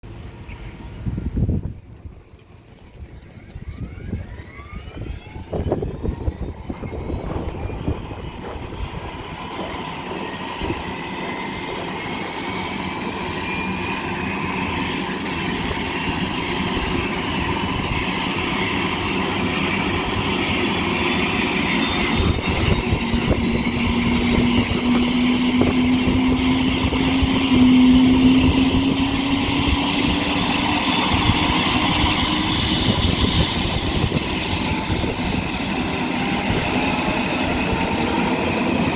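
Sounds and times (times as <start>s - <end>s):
helicopter rotor low tone: 0.0s - 38.9s
turbine engine whine rising: 0.0s - 38.9s.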